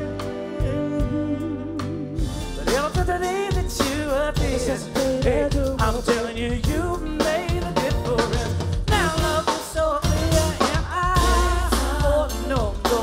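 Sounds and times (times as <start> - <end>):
backing band with drum kit: 0.0 - 13.0
male vocal group singing: 0.0 - 13.0.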